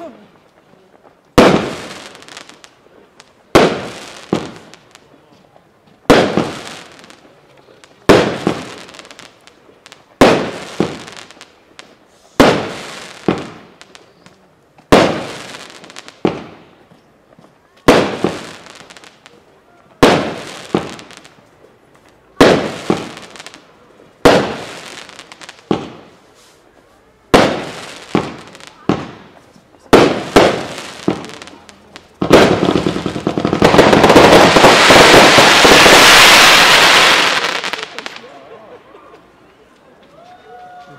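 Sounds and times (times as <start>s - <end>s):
fireworks bursting: 0.0s - 5.3s, 6.0s - 17.0s, 17.8s - 38.6s.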